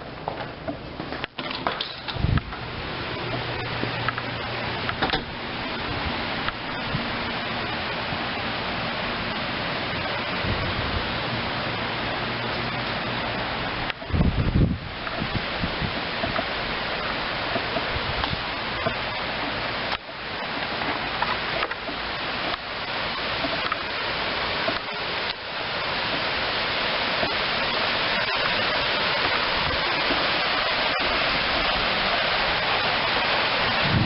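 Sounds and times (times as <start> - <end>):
waterfall rushing: 1.6 - 34.0.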